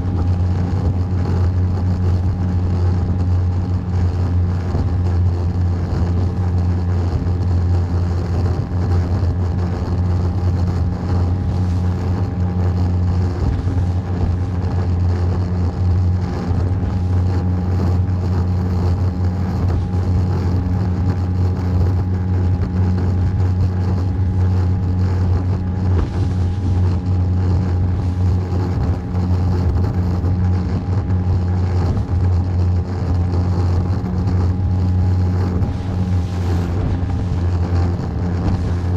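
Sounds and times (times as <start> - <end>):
small boat engine humming: 0.0 - 38.9.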